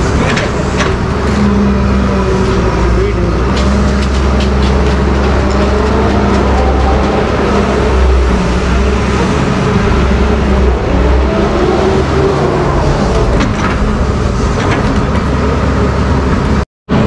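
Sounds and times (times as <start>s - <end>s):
diesel engine running under load: 0.0s - 17.0s
hydraulics moving boom: 0.0s - 17.0s.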